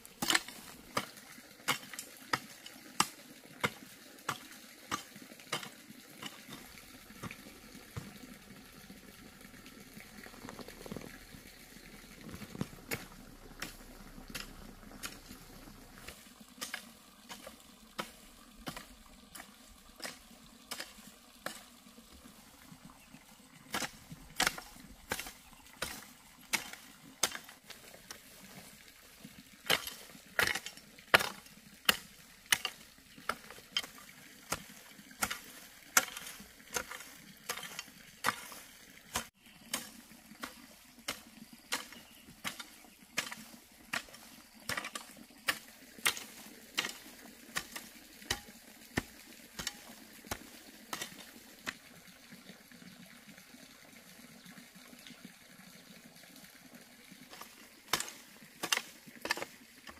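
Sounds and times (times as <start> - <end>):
hoe chopping dry soil: 0.1 - 8.3, 10.1 - 23.1, 23.7 - 28.9, 29.6 - 51.8, 57.3 - 59.9.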